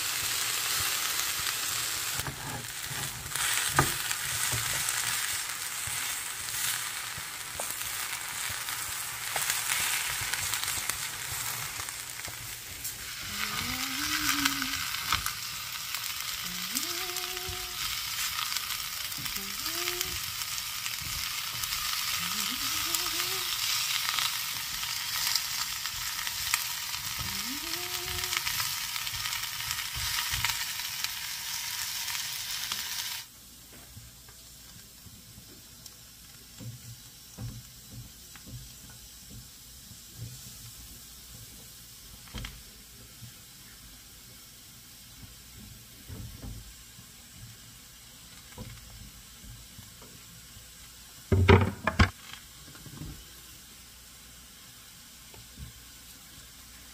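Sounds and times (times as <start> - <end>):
vegetables sizzling in frying pan: 0.0 - 56.9.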